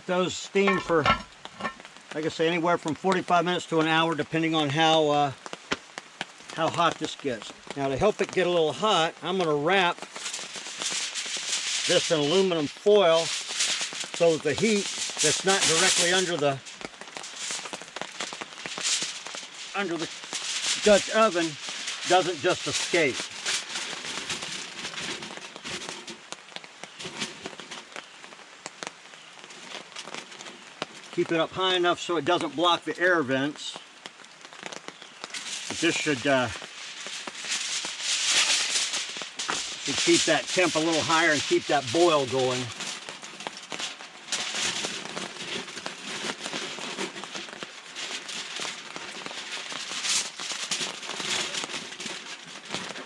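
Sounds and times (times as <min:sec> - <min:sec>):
aluminum foil crinkling: 0:00.4 - 0:02.2, 0:05.4 - 0:53.0.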